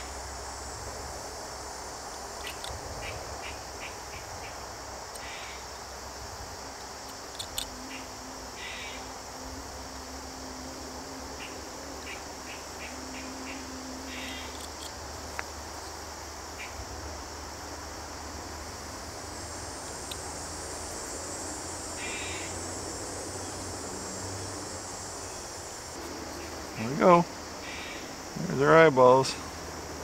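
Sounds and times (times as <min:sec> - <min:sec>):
crickets and insects chorus: 0:00.0 - 0:30.0.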